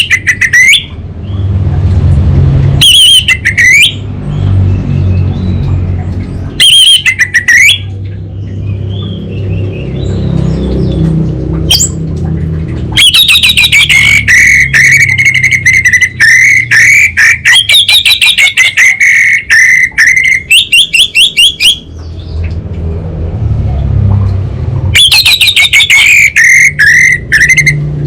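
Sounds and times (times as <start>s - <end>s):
bird rapid chattering call: 0.0s - 1.5s, 2.8s - 22.5s, 25.0s - 27.8s.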